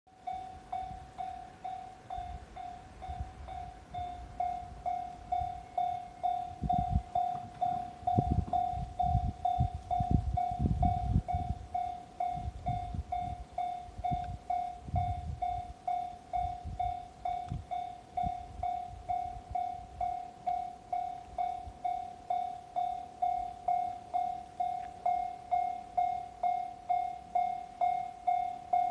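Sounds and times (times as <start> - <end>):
level-crossing warning bell: 0.1 - 28.9
passing train rumbling: 0.2 - 28.9.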